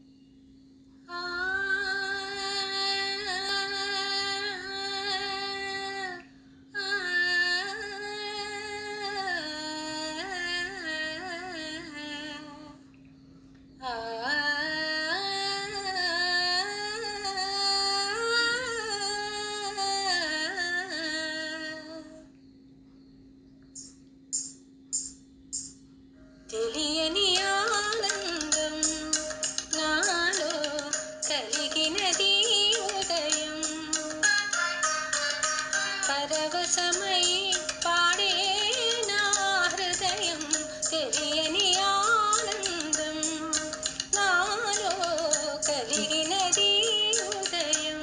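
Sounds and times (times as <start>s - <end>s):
woman singing: 1.1s - 12.8s, 13.8s - 22.2s, 26.5s - 48.0s.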